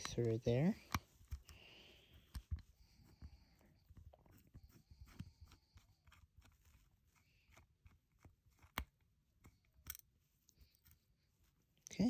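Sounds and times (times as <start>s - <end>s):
screwdriver clicking and scraping: 0.0s - 11.1s.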